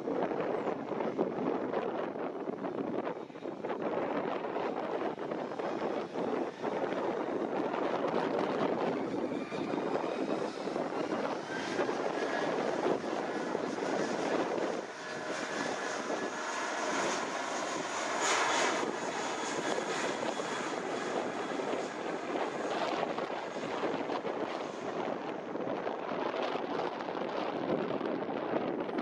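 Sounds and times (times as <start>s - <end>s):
high engine whine: 0.0s - 29.0s
jet engine roar: 0.0s - 29.0s.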